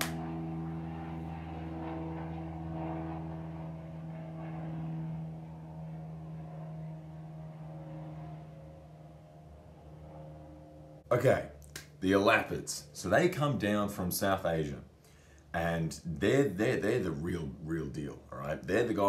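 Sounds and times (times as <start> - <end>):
aircraft engine droning: 0.0 - 19.0.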